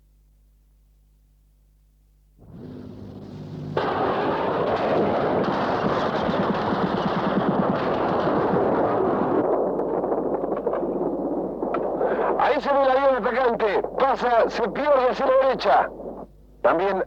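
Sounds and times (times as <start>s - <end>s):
anti-aircraft and machine-gun fire: 2.4s - 17.0s.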